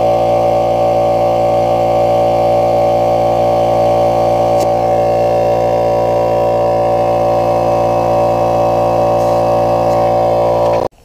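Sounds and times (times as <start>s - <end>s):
air compressor droning: 0.0s - 11.0s.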